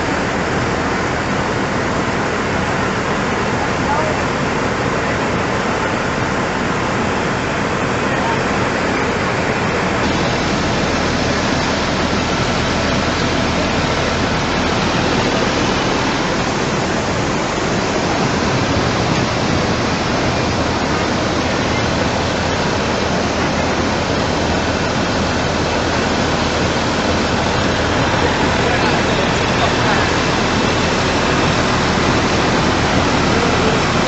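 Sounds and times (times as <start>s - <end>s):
fast-flowing floodwater rushing: 0.0s - 34.0s.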